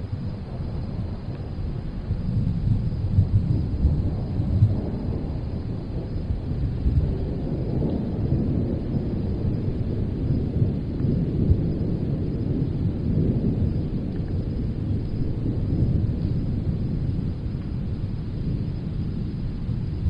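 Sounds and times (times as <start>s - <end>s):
distant thunder rumbling: 0.0s - 20.0s
soft wind: 0.0s - 20.0s.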